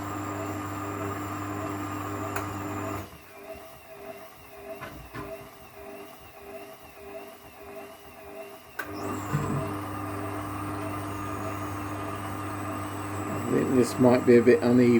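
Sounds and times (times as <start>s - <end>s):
washing machine motor humming: 0.0s - 14.9s.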